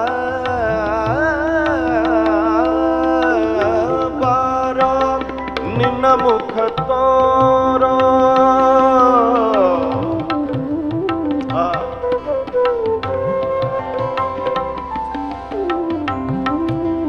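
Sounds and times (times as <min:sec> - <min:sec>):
sliding melodic notes: 0:00.0 - 0:17.0
tabla strokes: 0:00.0 - 0:17.0.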